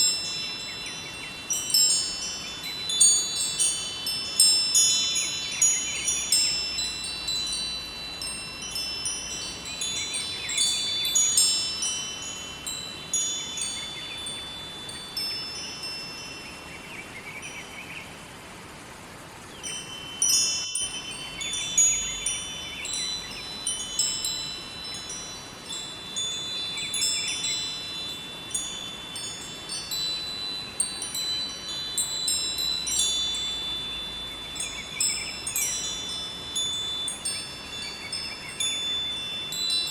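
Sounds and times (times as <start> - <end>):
wind chimes ringing: 0.0 - 17.9, 19.4 - 39.9
river water rushing: 0.0 - 39.9.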